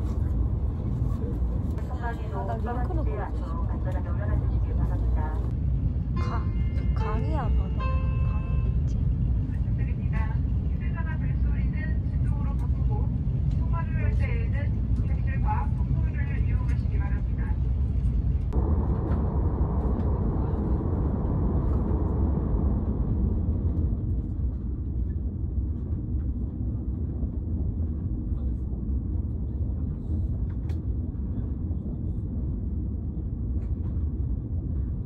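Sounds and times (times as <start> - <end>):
train rumble inside carriage: 0.0 - 35.0.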